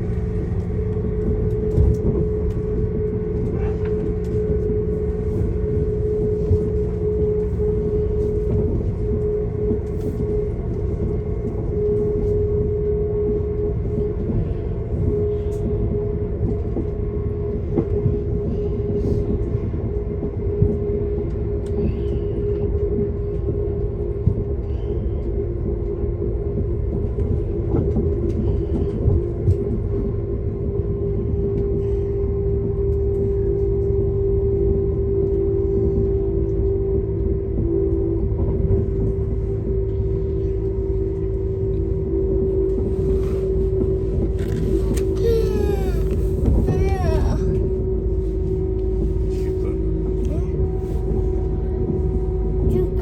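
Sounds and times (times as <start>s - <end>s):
constant humming tone: 0.0s - 53.0s
train wheels rumbling on track: 0.0s - 53.0s.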